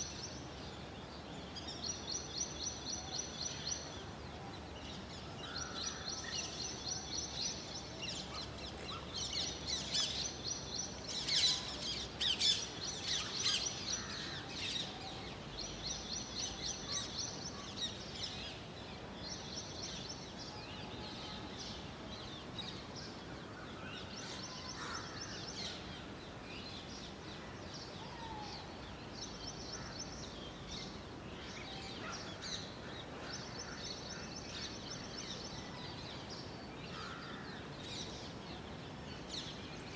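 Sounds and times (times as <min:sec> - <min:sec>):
faint outdoor hiss: 0:00.0 - 0:39.9
songbirds chirping: 0:00.0 - 0:39.9.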